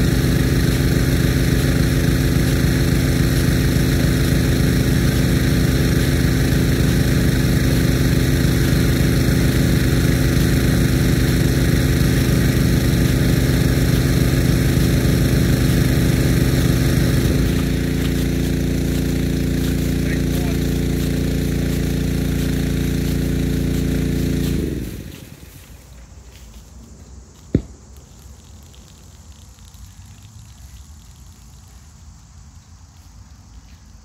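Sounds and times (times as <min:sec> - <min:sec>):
engine running with low beat: 0:00.0 - 0:34.0
steady hiss: 0:00.0 - 0:34.0.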